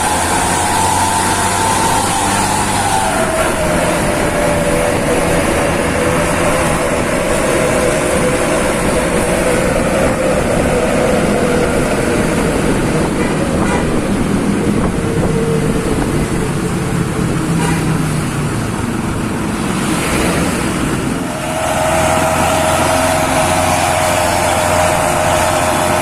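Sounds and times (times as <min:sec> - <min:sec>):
truck engine through loud exhaust: 0:00.0 - 0:26.0.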